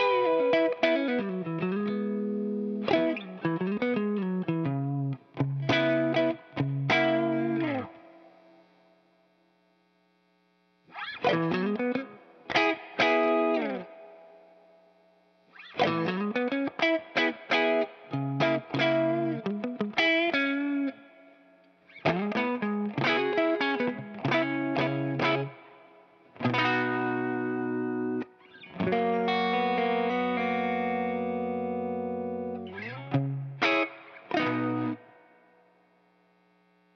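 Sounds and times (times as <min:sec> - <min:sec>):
electric guitar chords ringing: 0:00.0 - 0:09.0, 0:10.9 - 0:36.1.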